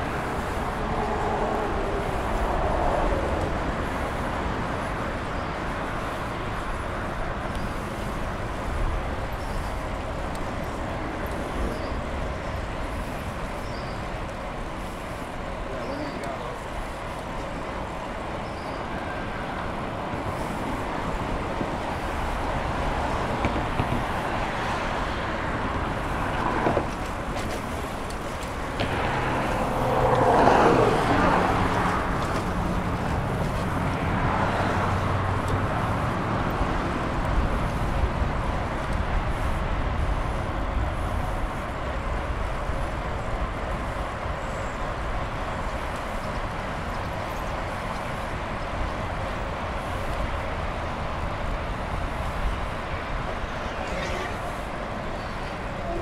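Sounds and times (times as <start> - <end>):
road traffic passing cars: 0.0 - 56.0
wind noise from moving bicycle: 0.0 - 56.0.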